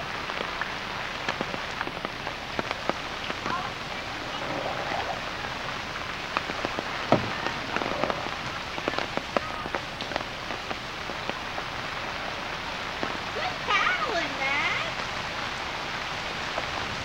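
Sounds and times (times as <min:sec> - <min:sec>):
rain hissing on water: 0:00.0 - 0:17.0.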